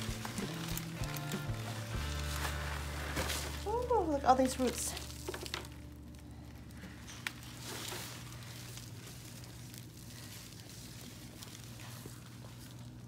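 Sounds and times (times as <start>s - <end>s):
low steady hum: 0.0s - 13.0s
rustling and crackling of roots: 0.0s - 13.0s.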